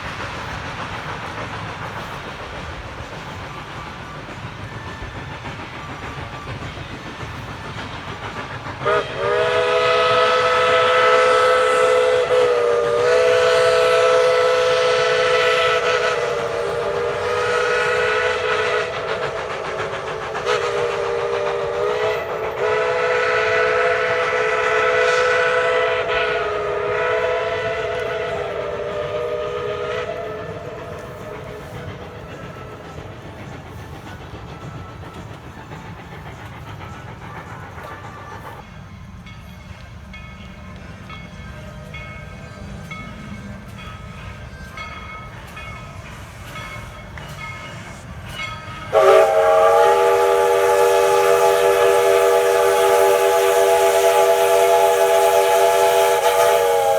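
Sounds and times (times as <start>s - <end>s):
steam locomotive chime whistle: 0.0s - 56.9s
train running rumble: 0.0s - 56.9s.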